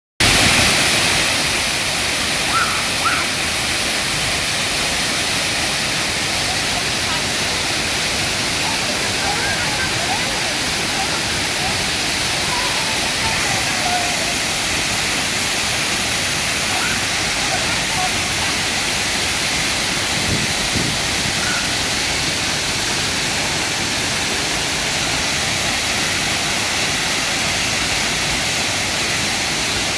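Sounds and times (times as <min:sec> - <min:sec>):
waterfall roaring: 0:00.2 - 0:29.9.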